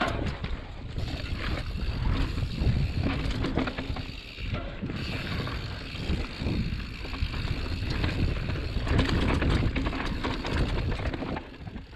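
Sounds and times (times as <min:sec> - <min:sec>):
bike rattling and clicking: 0:00.0 - 0:11.9
bike tyres rolling over rough ground: 0:00.0 - 0:11.9.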